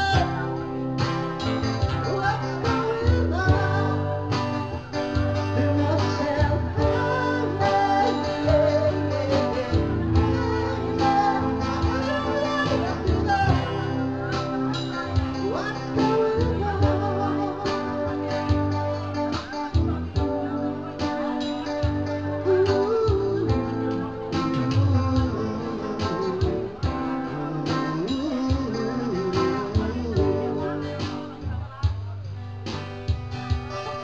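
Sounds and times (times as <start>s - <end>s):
person singing: 0.0s - 31.9s
guitar over a steady beat: 0.0s - 34.0s.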